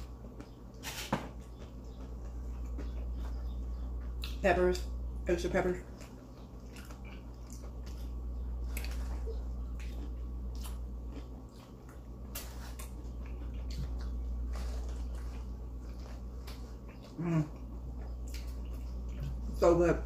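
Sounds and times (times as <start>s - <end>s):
person chewing food: 0.0s - 4.4s, 5.8s - 19.6s
steady low hum: 0.0s - 20.0s.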